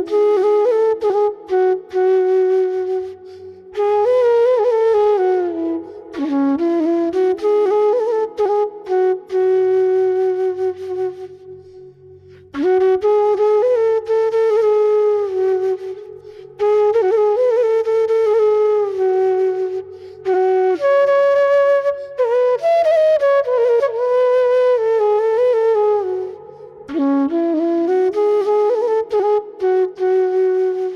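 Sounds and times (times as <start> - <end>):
bamboo flute melody: 0.0 - 30.9.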